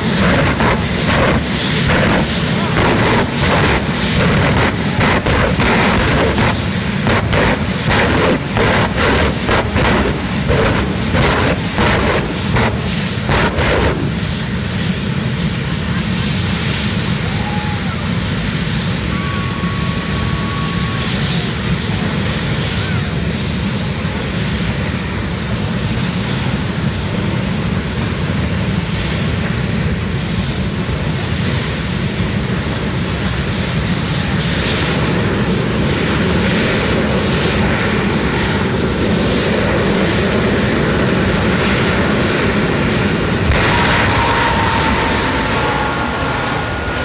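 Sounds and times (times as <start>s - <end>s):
drag racing engines roaring: 0.0s - 17.3s, 18.0s - 47.0s.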